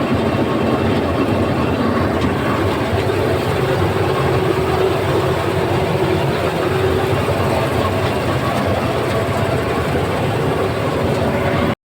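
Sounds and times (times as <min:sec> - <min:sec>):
combine harvester running: 0:00.0 - 0:11.8.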